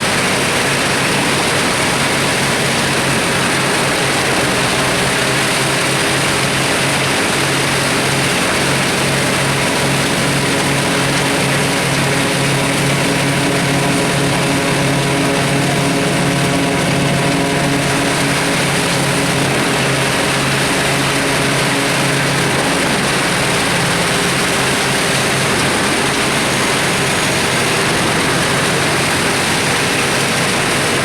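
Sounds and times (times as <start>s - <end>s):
wood chipper roaring: 0.0s - 31.0s.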